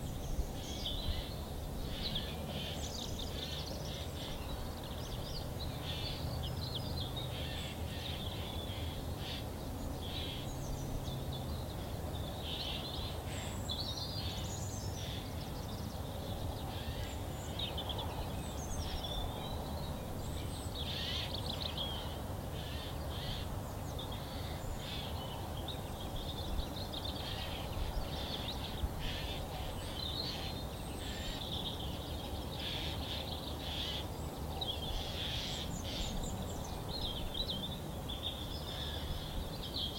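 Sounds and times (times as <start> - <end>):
wild birds singing and calling: 0.0 - 39.9.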